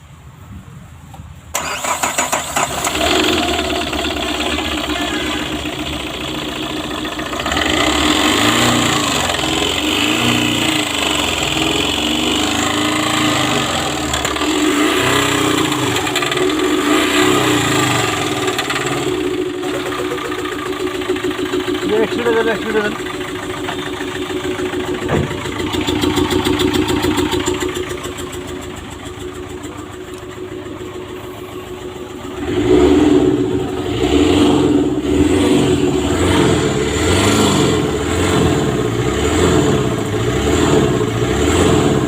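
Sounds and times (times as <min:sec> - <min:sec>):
diesel engine starting and running: 0:00.0 - 0:42.0.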